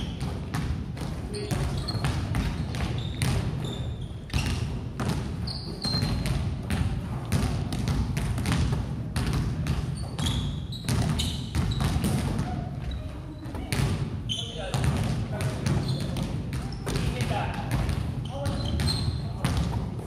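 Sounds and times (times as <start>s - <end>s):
basketballs bouncing: 0.0s - 20.0s
sneakers squeaking on court: 0.0s - 20.0s.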